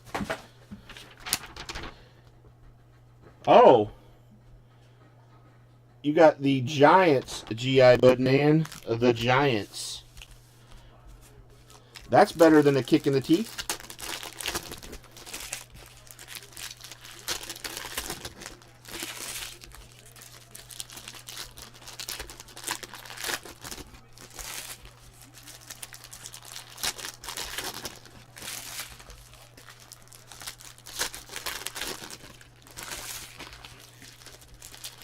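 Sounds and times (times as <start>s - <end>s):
low electrical hum: 0.0s - 35.0s
plastic packaging crinkling: 0.1s - 2.0s, 7.0s - 10.2s, 11.6s - 35.0s.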